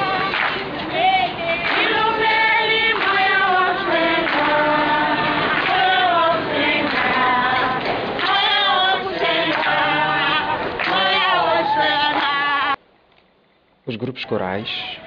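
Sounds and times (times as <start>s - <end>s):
group singing without instruments: 0.0s - 12.8s.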